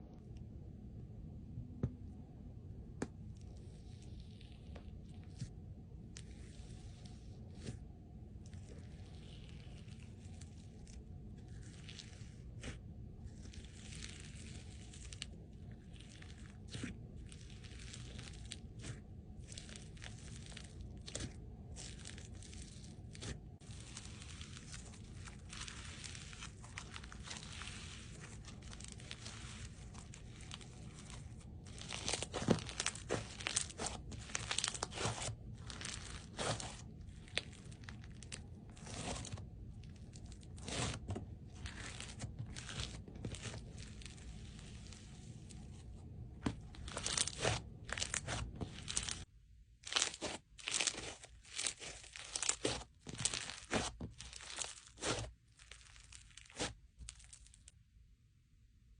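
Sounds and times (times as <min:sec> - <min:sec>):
crunchy slime crackling: 0:03.4 - 0:57.8.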